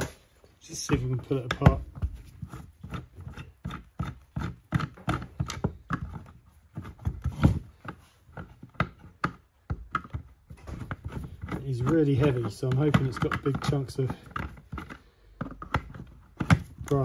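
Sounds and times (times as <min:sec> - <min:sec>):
screwdriver prising meter casing: 0:00.8 - 0:17.0.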